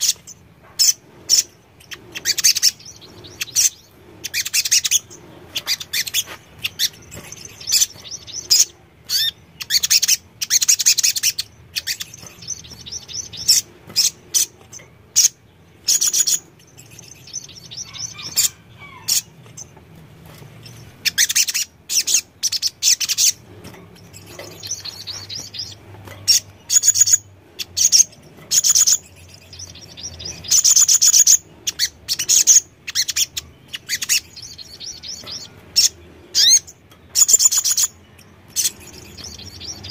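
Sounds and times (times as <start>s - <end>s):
bird singing high twittering trills: 0.0s - 19.7s, 20.6s - 39.9s.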